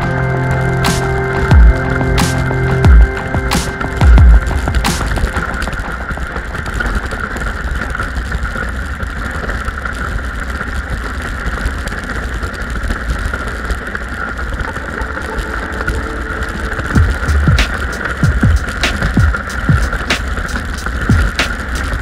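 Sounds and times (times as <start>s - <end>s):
toboggan runners scraping snow: 4.4s - 22.0s.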